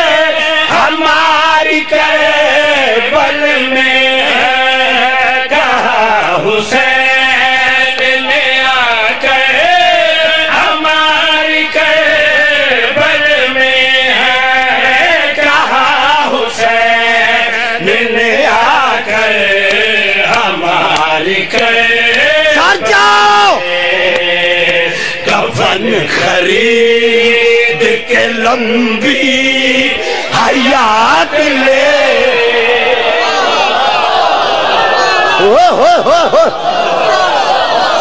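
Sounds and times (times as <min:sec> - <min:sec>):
men chanting: 0:00.0 - 0:38.0.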